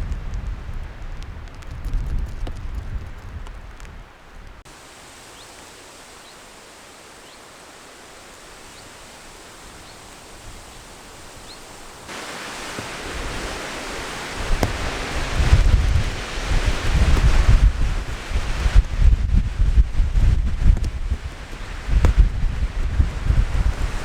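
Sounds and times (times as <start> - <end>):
wind buffeting microphone: 0.0 - 24.0
wind hiss: 4.4 - 24.0.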